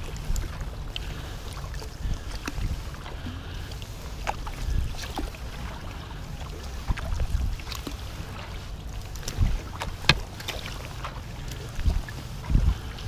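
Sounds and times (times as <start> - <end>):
paddle splashes and drips: 0.0 - 13.0.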